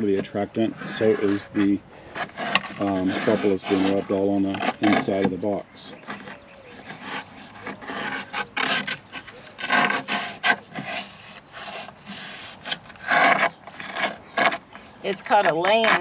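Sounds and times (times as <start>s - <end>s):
scraping against wooden box: 0.0s - 16.0s.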